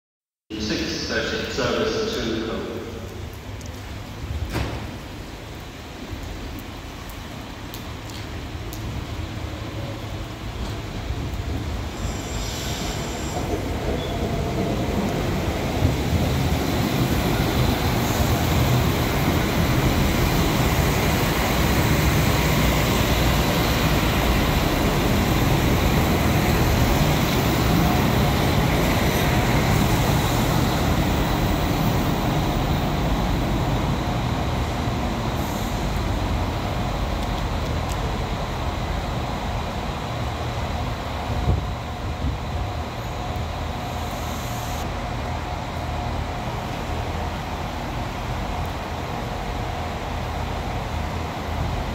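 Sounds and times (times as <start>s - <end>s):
diesel train engines rumbling: 0.5s - 51.9s
train wheels on rails: 7.1s - 51.9s.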